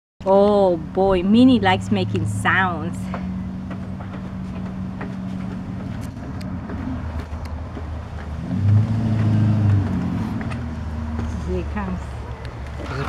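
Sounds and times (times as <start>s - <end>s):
vehicle engine humming: 0.2s - 13.0s.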